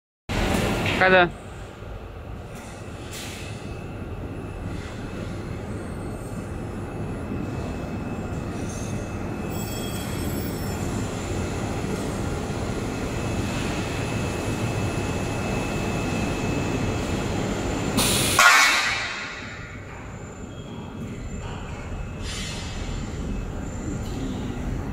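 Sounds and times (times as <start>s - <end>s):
factory machinery rumbling: 0.3s - 24.9s.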